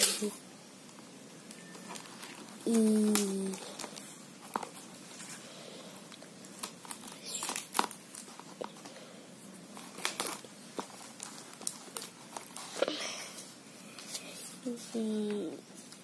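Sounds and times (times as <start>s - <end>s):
tape and cardboard crinkling: 1.4s - 5.4s, 6.0s - 8.9s, 9.7s - 16.0s.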